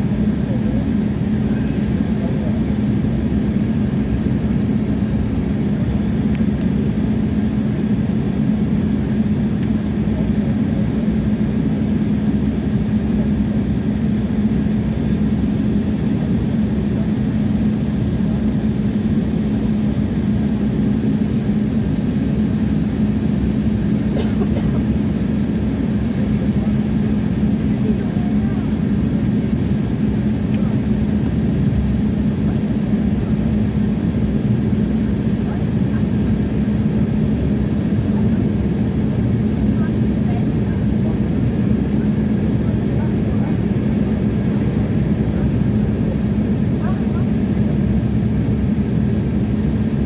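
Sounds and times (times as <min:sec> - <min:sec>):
jet airliner cabin drone: 0:00.0 - 0:50.0.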